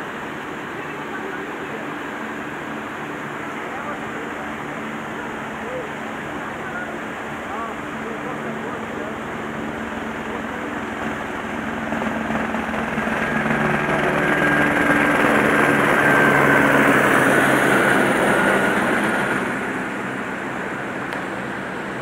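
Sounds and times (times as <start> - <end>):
helicopter flying past: 0.0 - 22.0.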